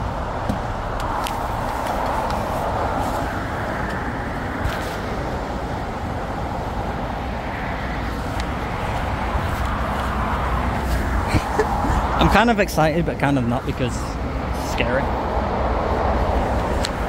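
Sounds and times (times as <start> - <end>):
traffic rushing: 0.0 - 17.0.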